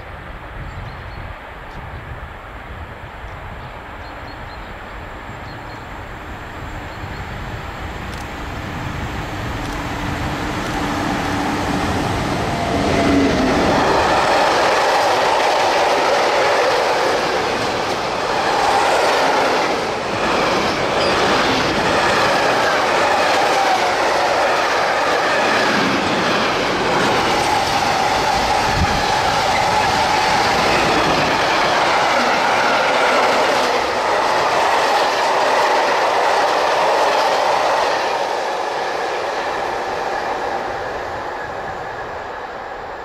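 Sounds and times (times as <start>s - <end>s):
electric locomotive passing: 2.6s - 43.0s.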